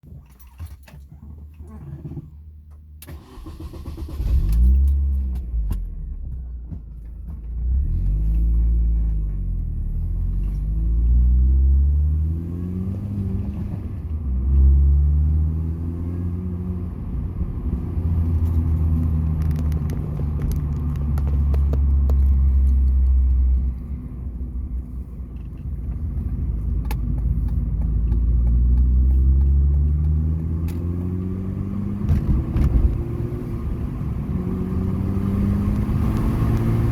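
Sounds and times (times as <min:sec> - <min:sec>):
car engine accelerating: 0:03.0 - 0:36.9.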